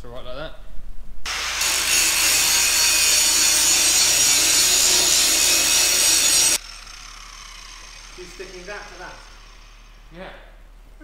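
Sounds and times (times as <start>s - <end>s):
angle grinder grinding steel: 1.3s - 10.4s.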